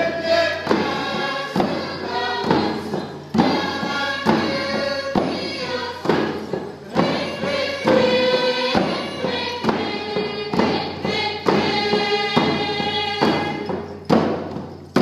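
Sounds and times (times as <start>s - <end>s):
group singing: 0.0s - 14.4s
frame drum beats: 0.0s - 15.0s.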